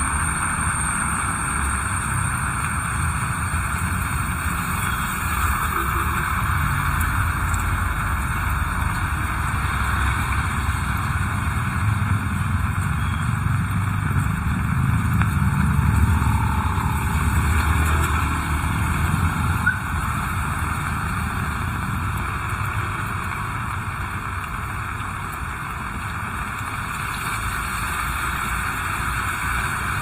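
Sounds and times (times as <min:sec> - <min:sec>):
heavy rain falling: 0:00.0 - 0:30.0
vehicle passing on wet road: 0:00.0 - 0:30.0.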